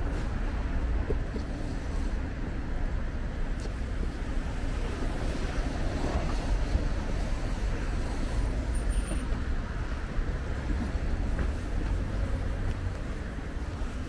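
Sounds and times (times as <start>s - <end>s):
deep traffic rumble: 0.0s - 14.0s
vehicles passing on busy street: 0.0s - 14.0s.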